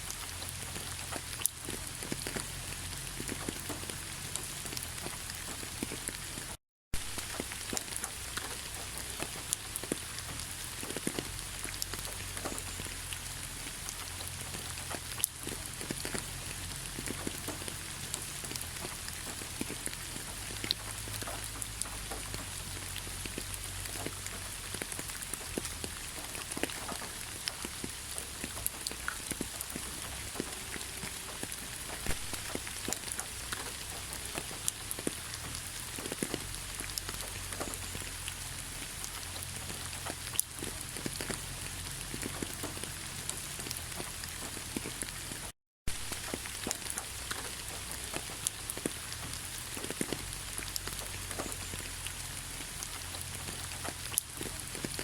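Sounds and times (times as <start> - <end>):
heavy rain: 0.0 - 55.0
raindrops ticking: 0.0 - 55.0.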